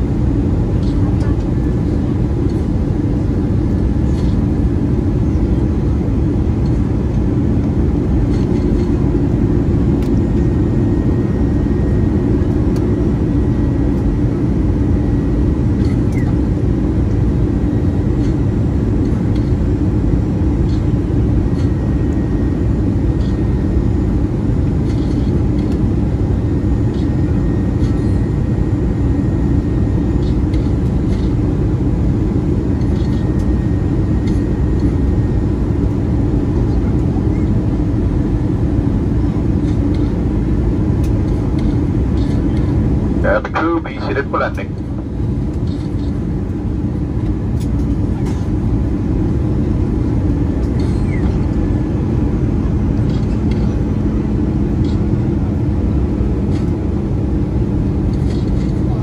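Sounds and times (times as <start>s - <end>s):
aircraft engine and airflow rumble: 0.0s - 59.0s.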